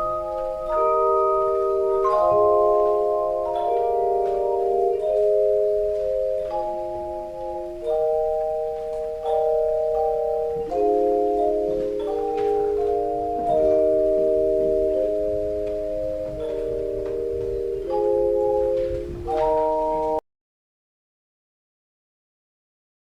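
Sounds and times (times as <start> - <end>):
instrumental music with held chords: 0.0 - 20.2.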